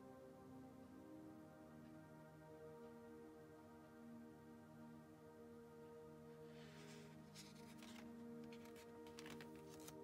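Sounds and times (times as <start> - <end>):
calm background music: 0.0 - 10.0.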